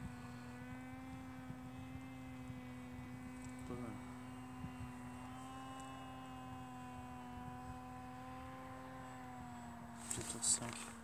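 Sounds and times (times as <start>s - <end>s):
drone propeller hum: 0.0s - 11.0s.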